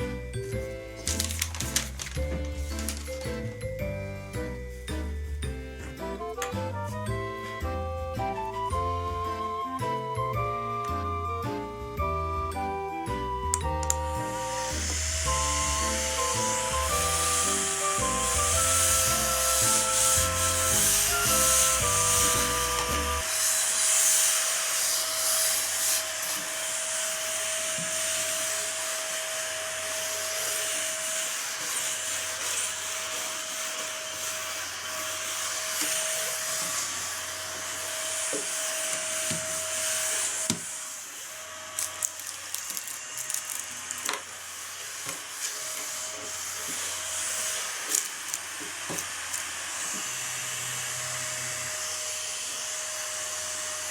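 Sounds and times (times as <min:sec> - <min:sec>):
small vacuum cleaner running: 0:04.7 - 0:53.9.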